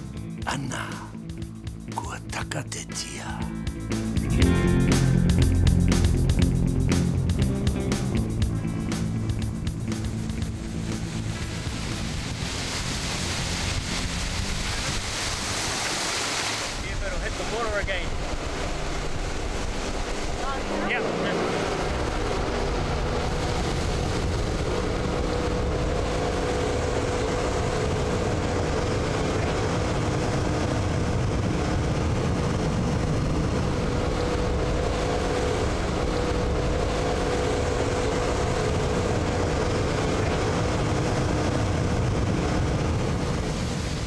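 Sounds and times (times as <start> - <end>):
motorboat engine running: 0.0 - 44.0
rushing water: 0.0 - 44.0.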